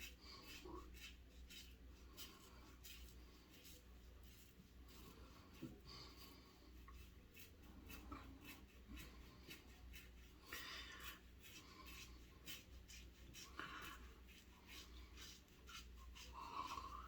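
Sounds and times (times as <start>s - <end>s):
razor scraping lathered skin: 0.0s - 17.0s.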